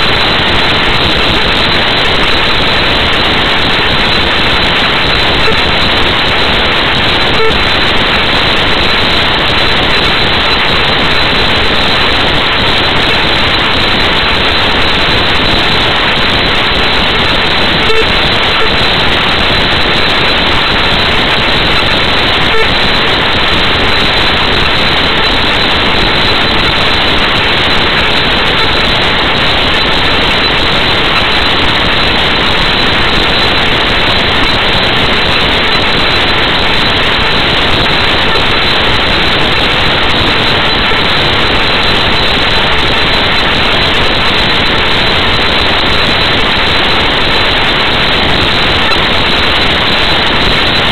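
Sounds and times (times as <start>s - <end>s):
static hiss: 0.0s - 50.9s.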